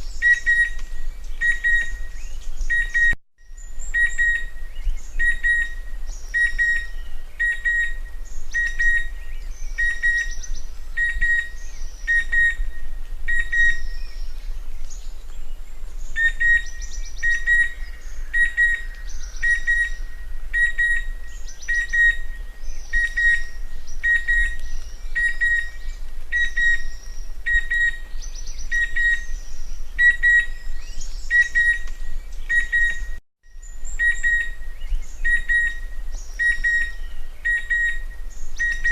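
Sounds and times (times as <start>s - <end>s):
cuckoo whistled calls: 0.0s - 38.9s.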